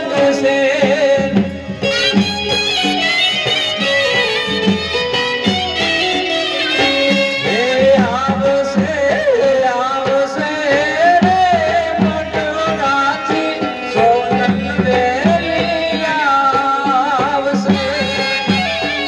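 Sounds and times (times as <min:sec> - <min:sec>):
hand drum beat: 0:00.0 - 0:19.0
harmonium melody: 0:00.0 - 0:19.0
person singing: 0:00.0 - 0:19.0.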